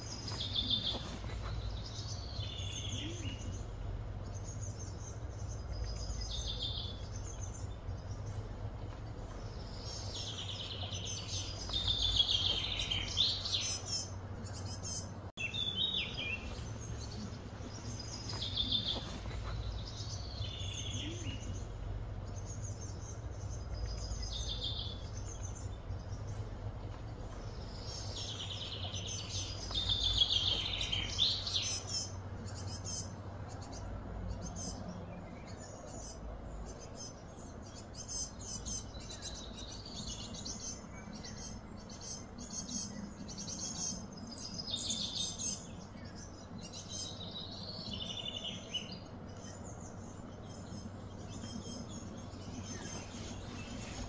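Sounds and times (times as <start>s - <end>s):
birds chirping: 0.0s - 54.0s
low steady hum: 0.0s - 54.0s.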